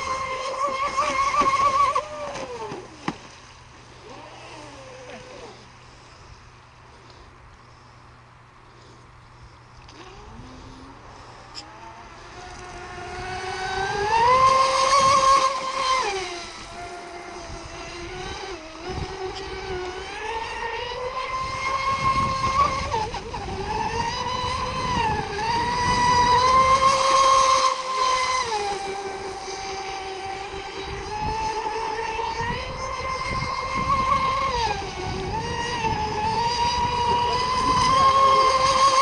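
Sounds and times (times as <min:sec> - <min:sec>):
electric boat motor whine: 0:00.0 - 0:39.0.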